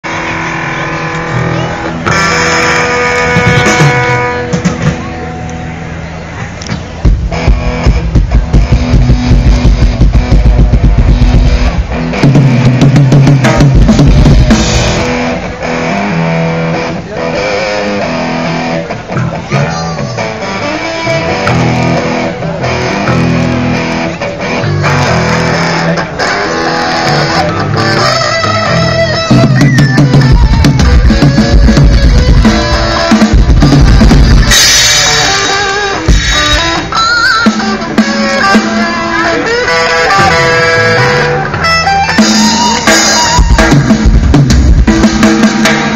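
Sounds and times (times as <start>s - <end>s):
amplified rock band playing: 0.0s - 45.9s
electric guitar: 0.0s - 45.9s
held guitar and bass chords: 0.0s - 45.9s
drum kit beating: 1.3s - 5.4s, 6.4s - 17.2s, 19.0s - 45.9s.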